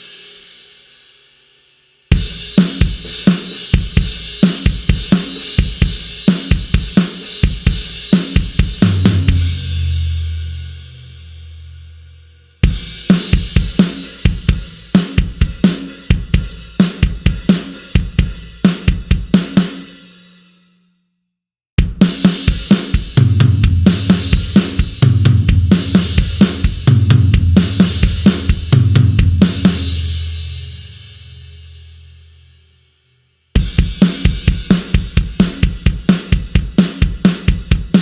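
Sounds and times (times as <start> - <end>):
drum kit playing rock grooves: 0.0 - 0.5, 2.1 - 11.6, 12.6 - 20.2, 21.8 - 31.5, 33.6 - 38.0.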